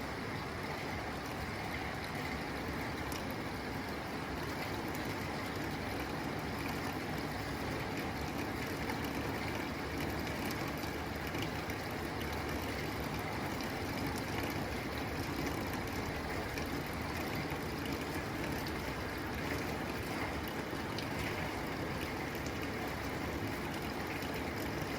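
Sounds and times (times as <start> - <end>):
rain pattering on a tin roof: 0.0 - 24.9.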